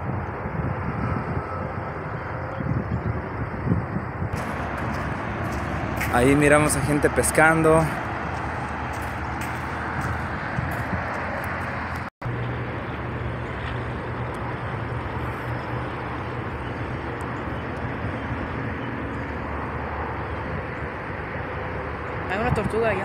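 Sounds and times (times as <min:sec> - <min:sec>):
freeway traffic rushing: 0:00.0 - 0:23.0.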